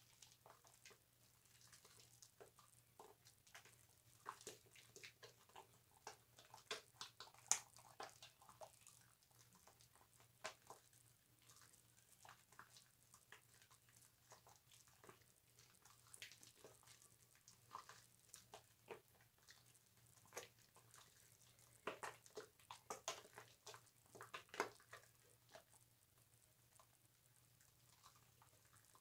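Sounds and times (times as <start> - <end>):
soap lather squishing and crackling: 0.0 - 29.0.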